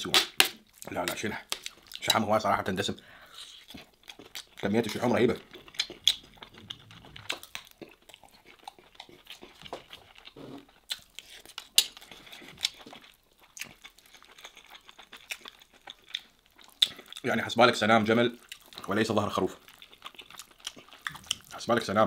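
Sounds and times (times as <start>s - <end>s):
chewing: 3.4s - 21.9s.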